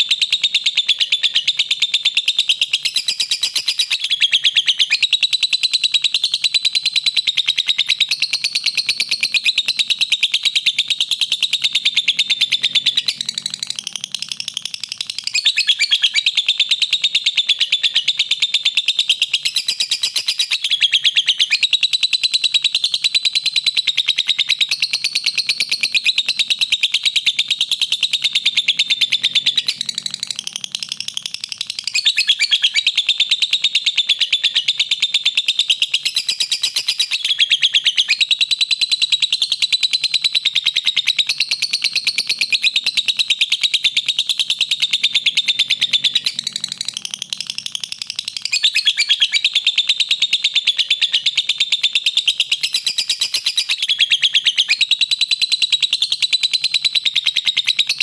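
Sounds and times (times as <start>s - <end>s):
bird high-pitched chirps: 0.0s - 58.0s.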